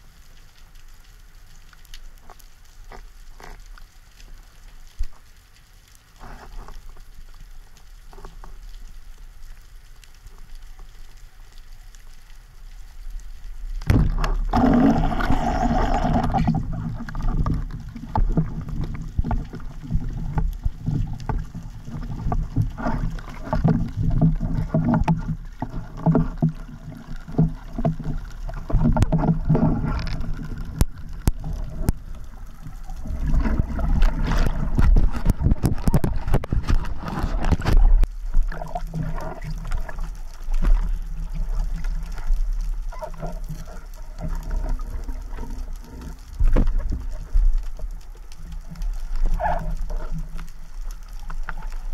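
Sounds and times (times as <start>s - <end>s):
water rushing underwater: 10.3s - 51.9s.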